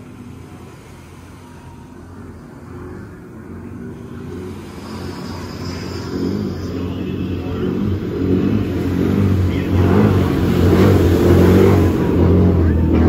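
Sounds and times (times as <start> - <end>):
distant boat engines droning: 0.0 - 13.0
waves washing on beach: 0.0 - 13.0.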